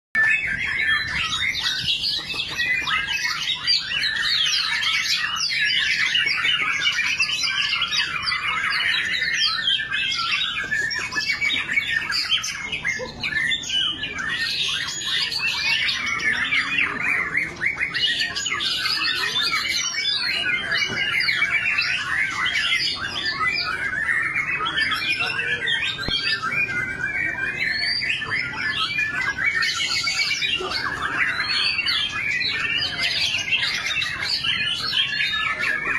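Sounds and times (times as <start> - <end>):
songbirds singing in chorus: 0.2 - 35.9.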